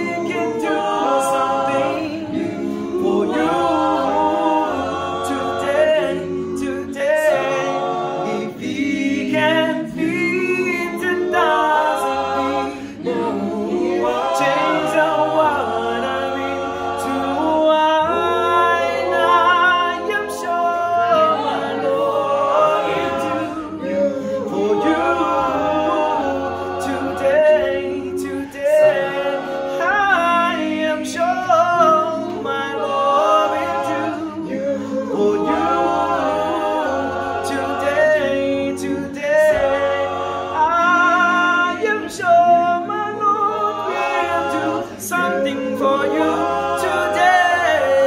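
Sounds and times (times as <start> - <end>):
male vocal group singing: 0.0 - 48.0.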